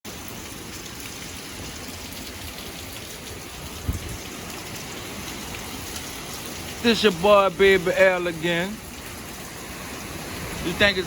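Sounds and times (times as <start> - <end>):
heavy rain hissing: 0.1 - 11.0.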